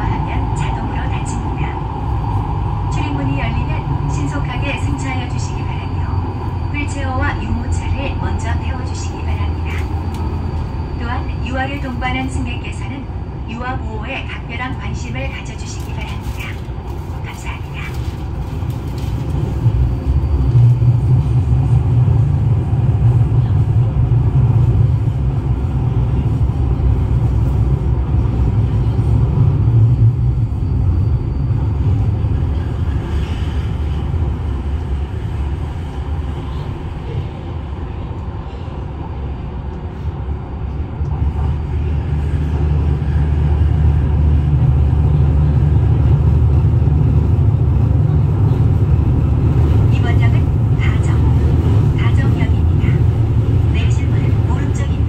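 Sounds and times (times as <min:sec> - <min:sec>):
subway train deep rumble: 0:00.0 - 0:55.0.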